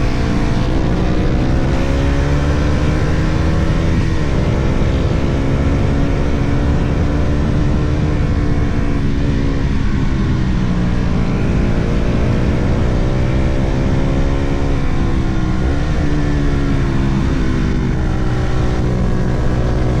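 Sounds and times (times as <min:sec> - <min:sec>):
sport motorcycle engine shifting gears: 0:00.0 - 0:20.0.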